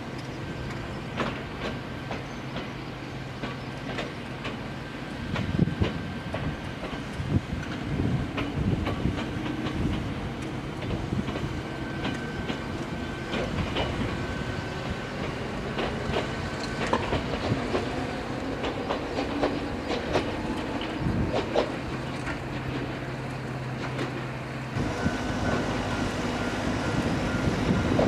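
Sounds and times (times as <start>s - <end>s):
train running rumble: 0.0s - 28.0s
train wheels clicking over rail joints: 0.0s - 28.0s.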